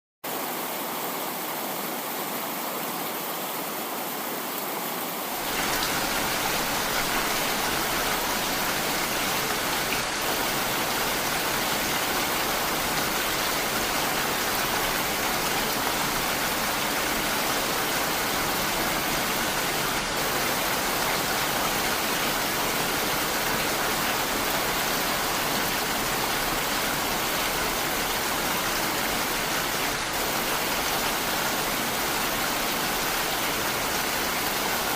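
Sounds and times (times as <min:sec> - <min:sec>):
heavy rain falling: 0:05.0 - 0:34.9.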